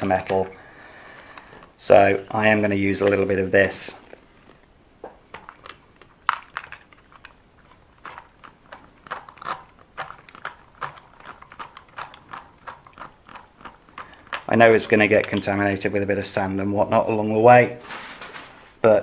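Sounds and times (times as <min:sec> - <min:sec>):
plastic tube clicks and crinkles: 0:00.0 - 0:00.6, 0:01.2 - 0:16.0.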